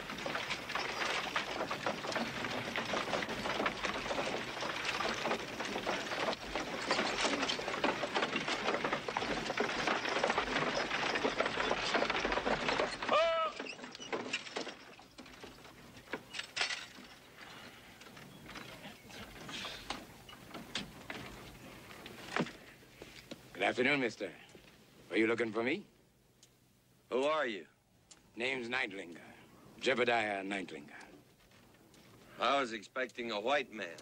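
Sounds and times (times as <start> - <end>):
horse-drawn wagon rattling: 0.0 - 24.4, 30.0 - 34.0.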